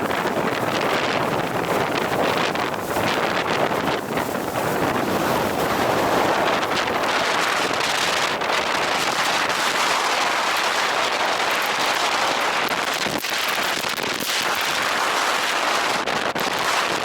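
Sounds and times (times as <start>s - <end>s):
blizzard wind buffeting microphone: 0.0s - 17.0s
sharp crackles in gusts: 0.0s - 17.0s.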